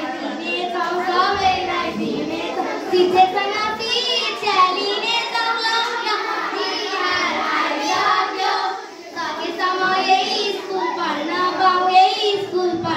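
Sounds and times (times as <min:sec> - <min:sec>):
children singing a folk song: 0:00.0 - 0:12.9.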